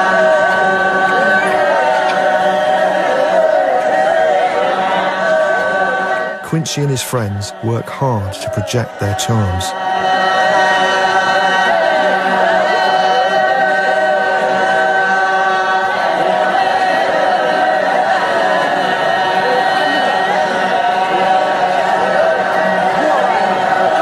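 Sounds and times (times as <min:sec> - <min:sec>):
group chanting a capella: 0:00.0 - 0:24.0.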